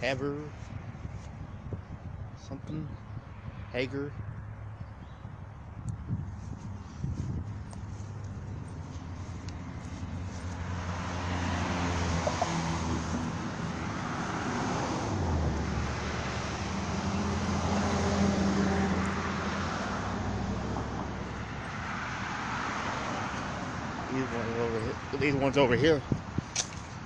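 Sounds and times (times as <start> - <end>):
vehicles passing: 0.0 - 27.0
low engine hum: 0.6 - 27.0.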